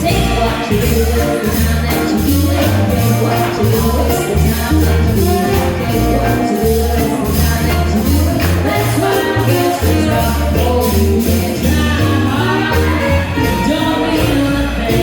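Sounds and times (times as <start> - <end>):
bass line: 0.0 - 15.0
swing jazz band playing: 0.0 - 15.0.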